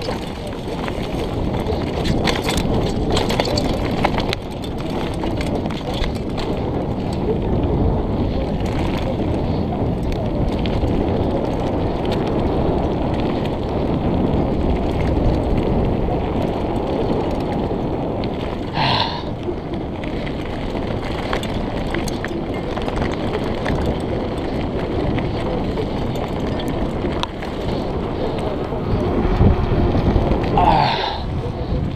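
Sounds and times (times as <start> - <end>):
bike rattling over bumps: 0.0 - 31.9
tyres rumbling over gravel: 0.0 - 31.9
wind noise on microphone: 0.0 - 31.9.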